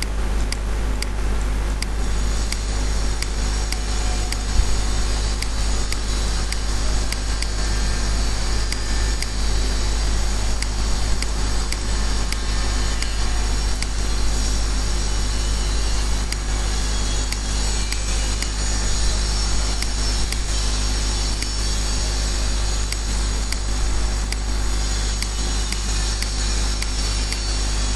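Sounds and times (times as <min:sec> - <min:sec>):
background hum and hiss: 0:00.0 - 0:27.9.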